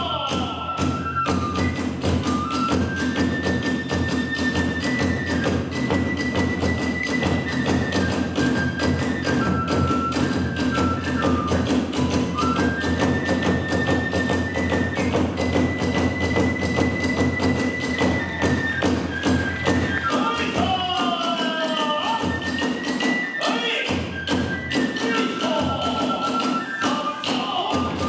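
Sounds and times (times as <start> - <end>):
bamboo flute: 0.0 - 28.0
drums: 0.0 - 28.0.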